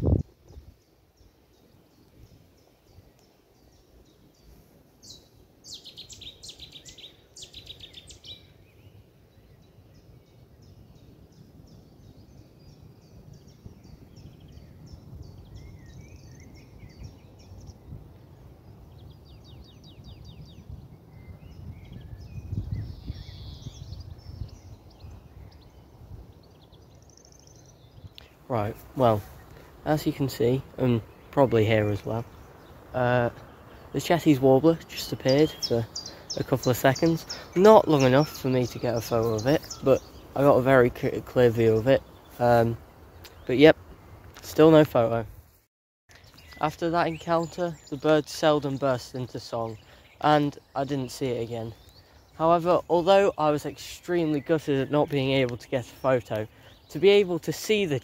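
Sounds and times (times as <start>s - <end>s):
small birds chirping: 0.0s - 58.0s
warbler singing loud bursts: 0.0s - 58.0s.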